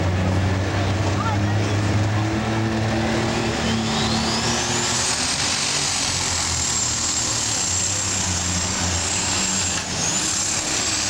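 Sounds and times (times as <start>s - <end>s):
diesel engine roaring under load: 0.0s - 11.0s
high steady turbo whine: 1.9s - 11.0s.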